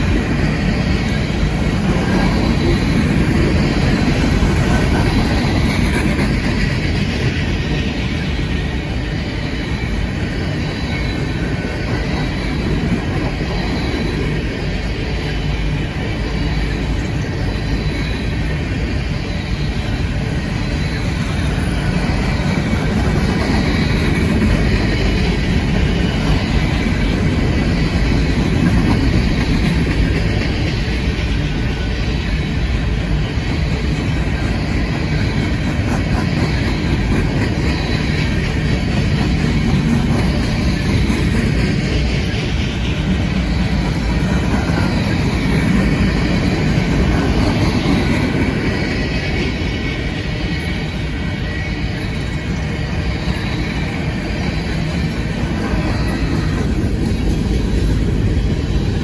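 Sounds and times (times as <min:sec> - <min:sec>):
freight train cars rolling past: 0:00.0 - 0:59.0.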